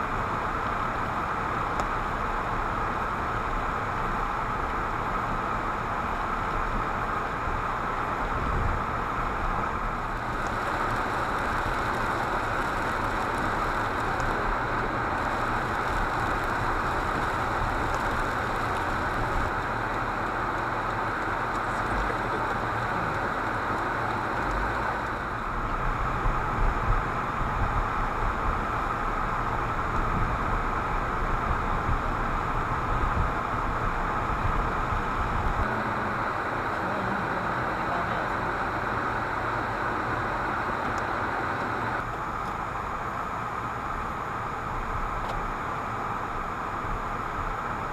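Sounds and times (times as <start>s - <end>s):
car interior road noise: 0.0s - 47.9s.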